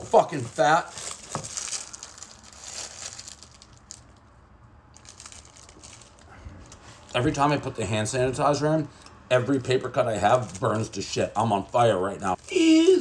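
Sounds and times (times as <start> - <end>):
plastic wrapper crinkling: 0.0 - 4.3, 4.9 - 7.6, 8.4 - 13.0.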